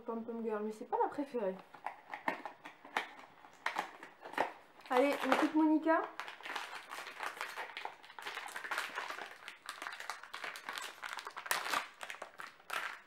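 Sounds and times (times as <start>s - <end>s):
plastic wrapper crinkling and tearing: 1.7s - 13.0s.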